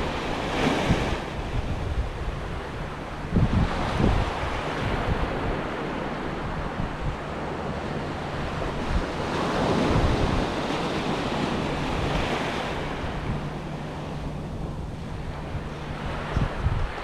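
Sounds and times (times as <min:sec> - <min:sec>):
sea waves breaking: 0:00.0 - 0:17.0
wind rumbling on microphone: 0:00.0 - 0:17.0.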